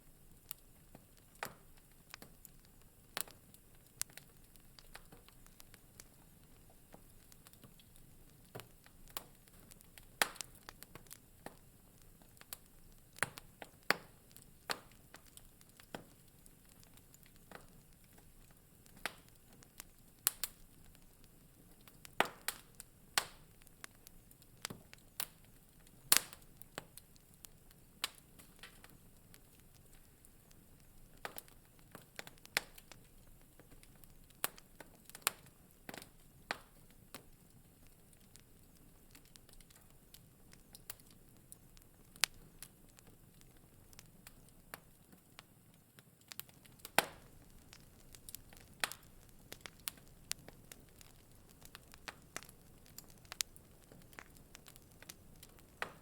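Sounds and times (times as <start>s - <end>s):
faint steady hiss: 0.0s - 56.0s
wood fire crackling: 0.0s - 56.0s.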